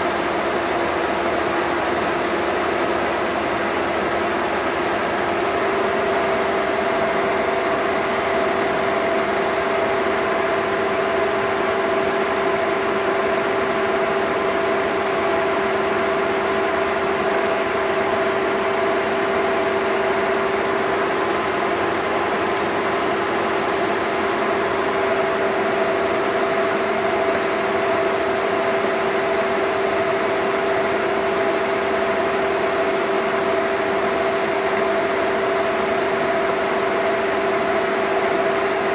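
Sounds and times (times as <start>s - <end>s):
lathe machine whirring: 0.0s - 38.9s.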